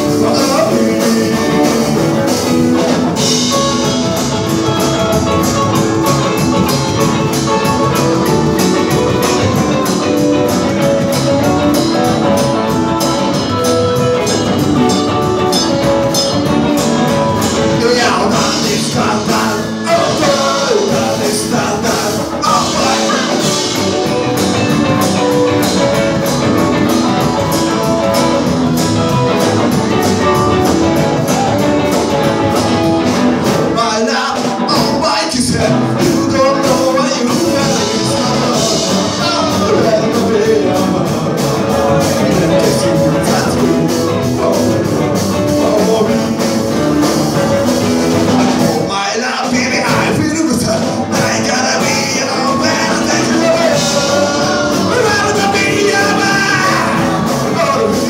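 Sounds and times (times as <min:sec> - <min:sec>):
double bass: 0:00.0 - 0:34.0, 0:34.7 - 0:49.0, 0:49.6 - 0:58.0
drum beat: 0:00.0 - 0:48.9, 0:49.5 - 0:58.0
electric guitar: 0:00.0 - 0:58.0
man singing: 0:00.0 - 0:58.0.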